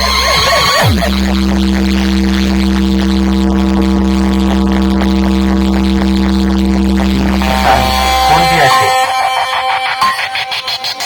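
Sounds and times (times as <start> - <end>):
deep bass drone: 0.0 - 10.7
buzzing synth tone: 0.0 - 11.0.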